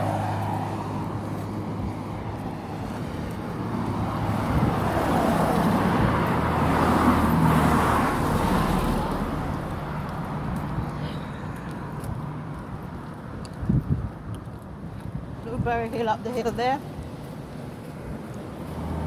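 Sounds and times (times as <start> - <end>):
vehicle engine hum: 0.0 - 14.8, 16.0 - 19.0
tyre and road noise: 0.0 - 19.0.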